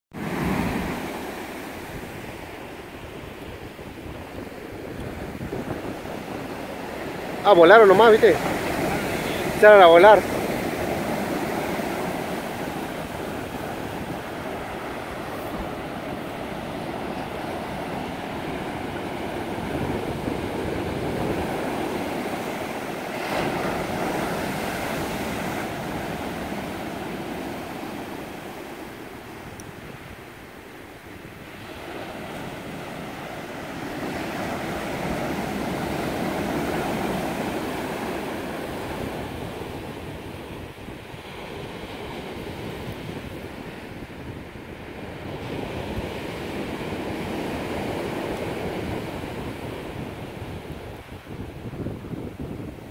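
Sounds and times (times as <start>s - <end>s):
ocean waves breaking on beach: 0.1s - 52.9s.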